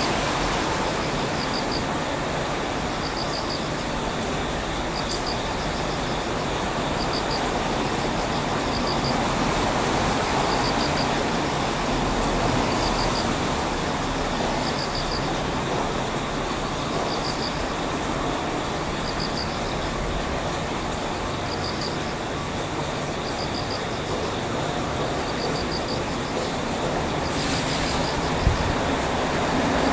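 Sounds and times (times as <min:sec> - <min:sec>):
electric locomotive rumbling: 0:00.0 - 0:29.9.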